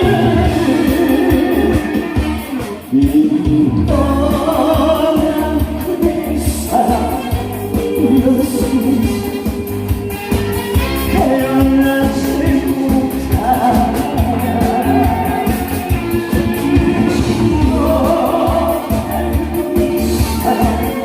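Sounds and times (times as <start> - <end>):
person singing: 0.0 - 9.9, 10.8 - 21.0
band accompaniment: 0.0 - 21.0
steady drum beat: 0.0 - 21.0.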